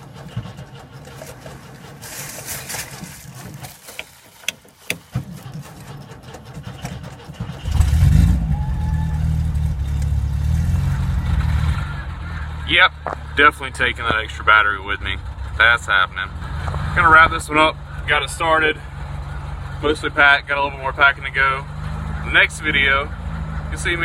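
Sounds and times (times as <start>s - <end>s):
van engine starting and idling: 0.0s - 24.0s.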